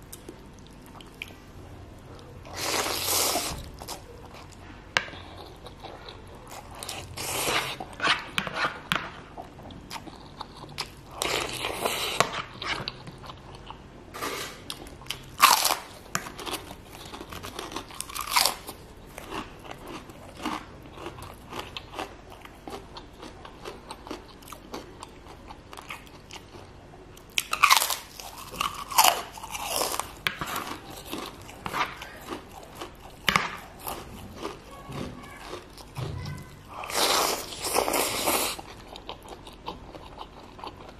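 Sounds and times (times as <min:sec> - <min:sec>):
chewing with wet mouth sounds: 0:00.0 - 0:13.9, 0:14.6 - 0:40.9.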